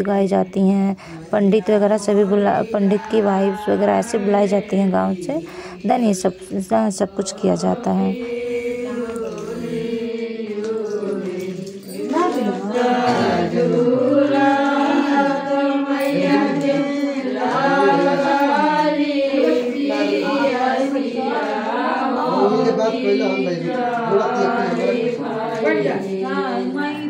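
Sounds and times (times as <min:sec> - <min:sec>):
women singing together: 0:00.0 - 0:27.0.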